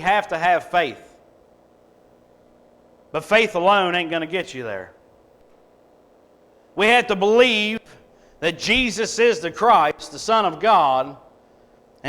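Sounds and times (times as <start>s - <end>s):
faint background hum and hiss: 0.0s - 12.0s.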